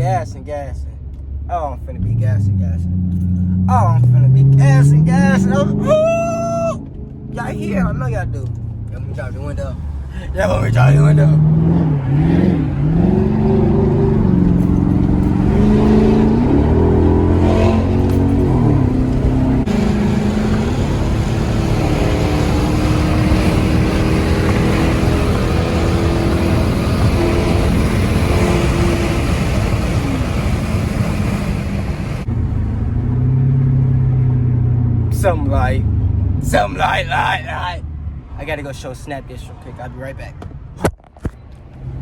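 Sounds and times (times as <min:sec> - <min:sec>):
loud car exhaust revving: 0:02.0 - 0:38.1.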